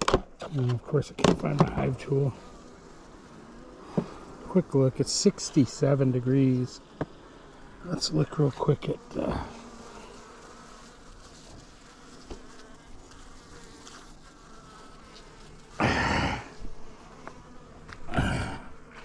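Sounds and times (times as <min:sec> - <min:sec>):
honey bees buzzing faintly: 0:00.0 - 0:19.0.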